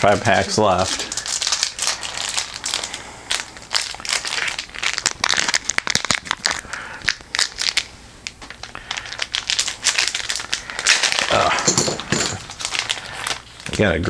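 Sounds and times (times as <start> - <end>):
plastic wrapper crinkling: 0.0 - 14.0.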